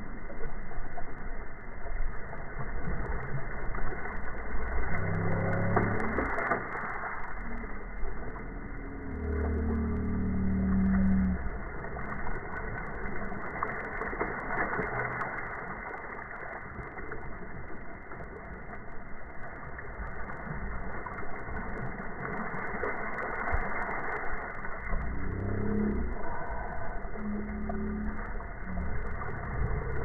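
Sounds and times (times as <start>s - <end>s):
paddles splashing through water: 0.0s - 30.0s
rush of water: 0.0s - 30.0s.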